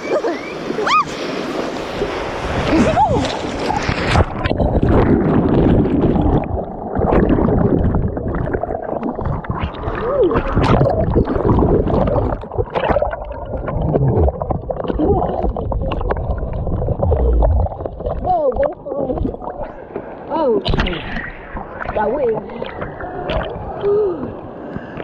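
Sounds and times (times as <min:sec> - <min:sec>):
water rushing and splashing: 0:00.0 - 0:25.0.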